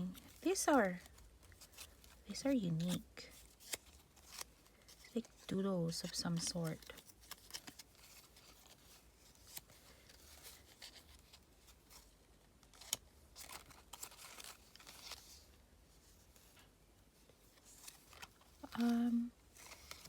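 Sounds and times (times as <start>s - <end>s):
paper packet rustling and crinkling: 0.0s - 20.0s.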